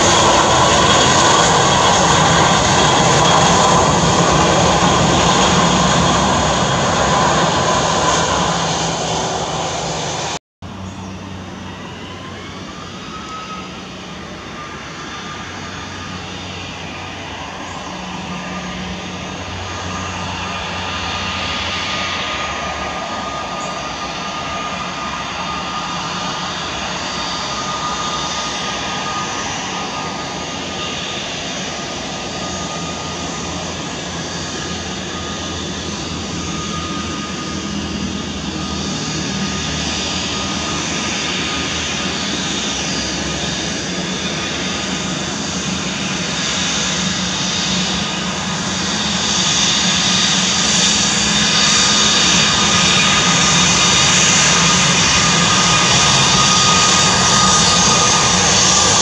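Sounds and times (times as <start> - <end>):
jet engine whine: 0.0 - 59.0.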